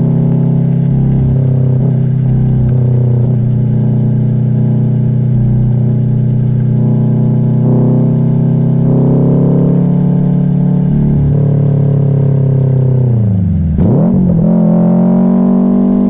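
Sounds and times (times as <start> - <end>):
car exhaust rumble: 0.0 - 16.0.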